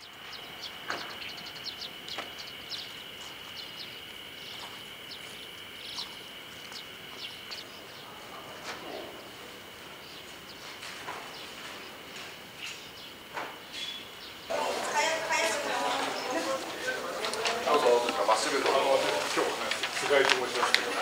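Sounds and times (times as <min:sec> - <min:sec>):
steady high-pitched drone: 0:00.0 - 0:19.8
birds chirping: 0:00.0 - 0:21.0.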